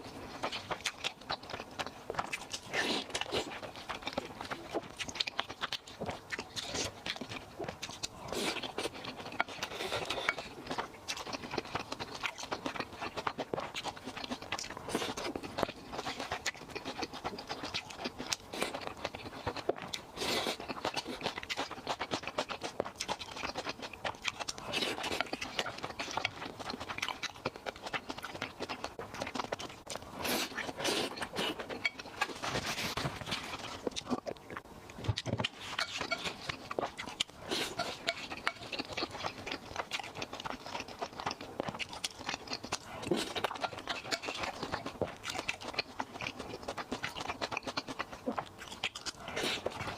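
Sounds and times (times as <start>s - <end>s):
person chewing: 0.0s - 49.9s.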